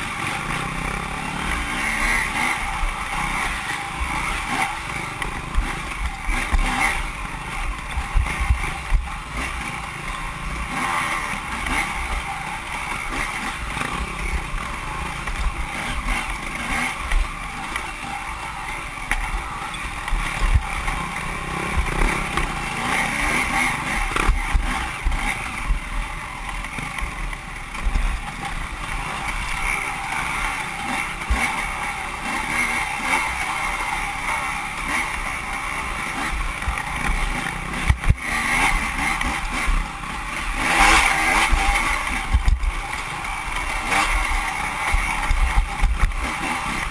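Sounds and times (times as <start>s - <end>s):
dirt bike engine running hard: 0.0s - 46.9s.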